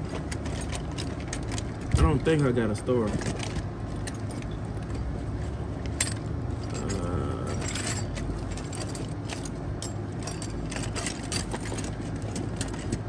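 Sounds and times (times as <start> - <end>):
metal tools clinking and rattling: 0.0 - 13.0.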